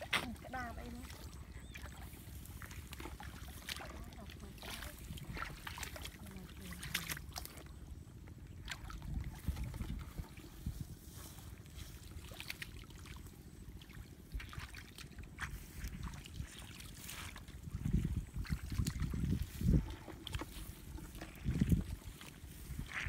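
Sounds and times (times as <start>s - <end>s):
sloshing in muddy water: 0.0s - 23.0s.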